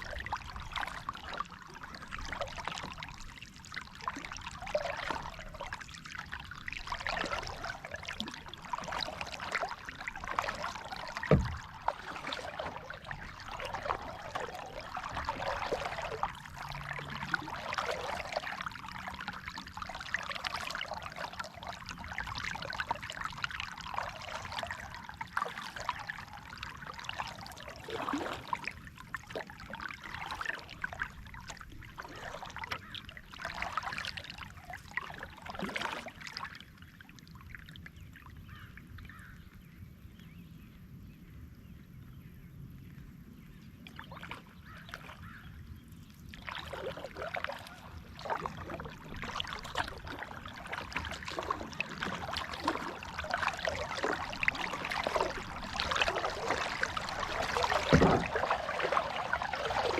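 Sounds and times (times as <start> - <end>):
water trickling and splashing: 0.0 - 39.6, 42.9 - 59.9.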